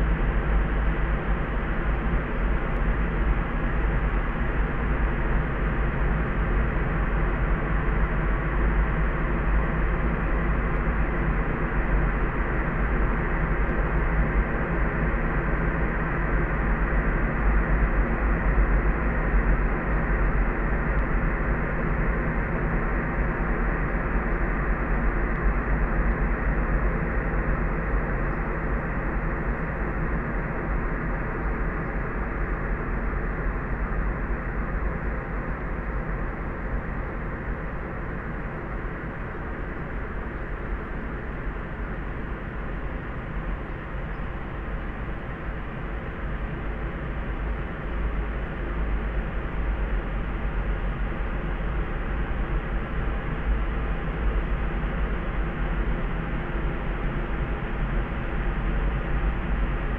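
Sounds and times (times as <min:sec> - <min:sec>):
soft pink noise: 0:00.0 - 0:59.9.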